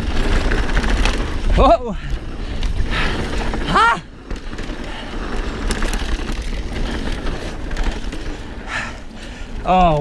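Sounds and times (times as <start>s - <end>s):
bike clicks and rattles: 0.0s - 10.0s
tyre and wind rumble: 0.0s - 10.0s.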